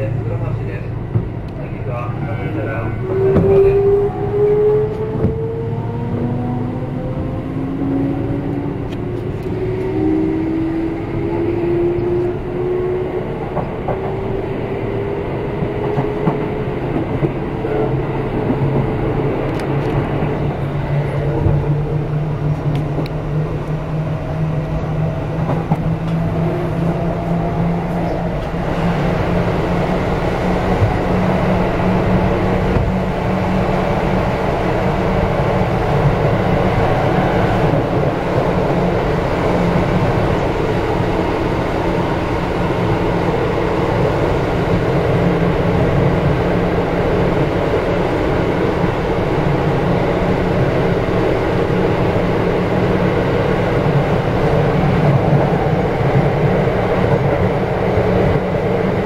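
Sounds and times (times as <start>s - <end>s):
train inverter whining: 0.0s - 59.0s
train wheels on rails: 2.5s - 6.4s, 7.1s - 59.0s.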